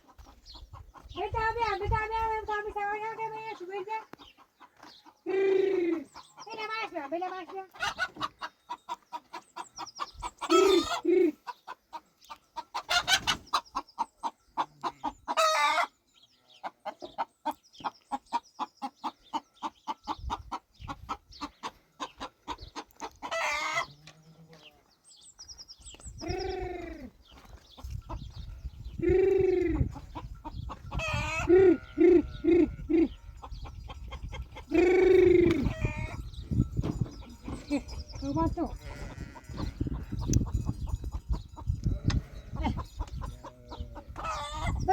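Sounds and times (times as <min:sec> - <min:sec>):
chicken calls: 0:00.0 - 0:44.9
chickens clucking: 0:00.0 - 0:44.9.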